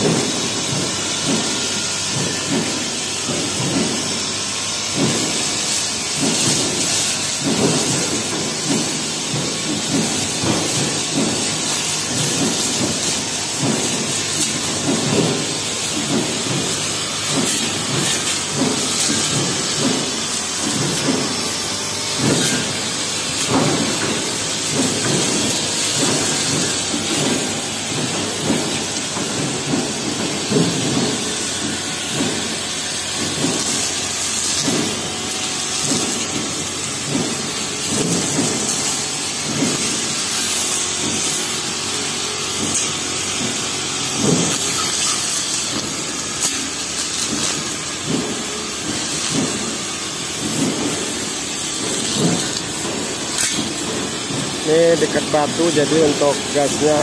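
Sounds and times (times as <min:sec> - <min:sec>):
blade knocking and swishing: 0:00.0 - 0:57.0
brush cutter running: 0:00.0 - 0:57.0.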